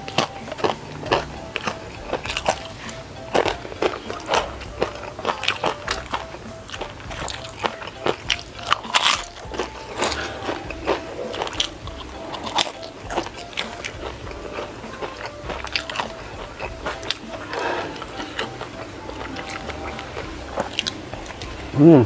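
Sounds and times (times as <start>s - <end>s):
crunching and chewing: 0.0s - 21.8s.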